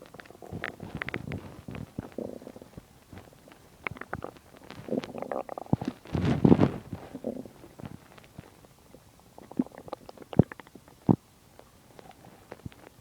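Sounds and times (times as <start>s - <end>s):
stomach rumbling and gurgling: 0.0s - 13.0s.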